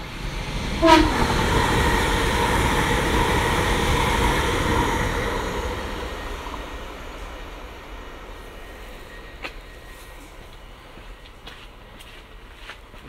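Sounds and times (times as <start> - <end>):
electric train passing at speed: 0.0 - 13.0.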